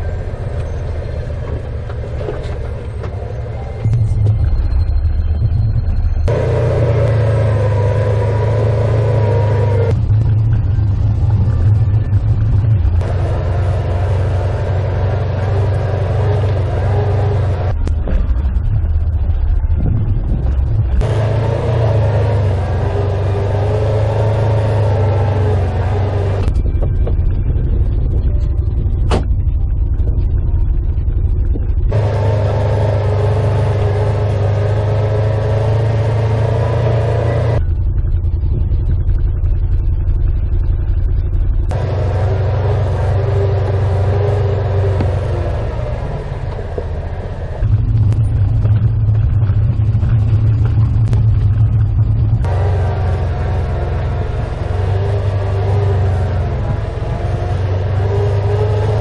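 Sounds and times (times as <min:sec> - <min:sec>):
off-road vehicle engines rumbling: 0:00.0 - 0:59.0.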